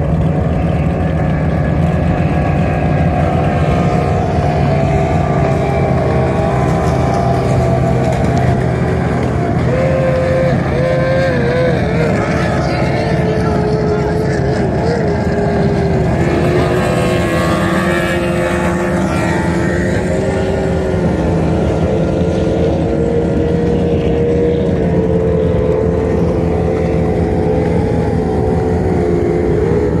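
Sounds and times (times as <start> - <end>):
heavy low rumble: 0.0 - 30.0
speedboat engines droning: 0.0 - 30.0.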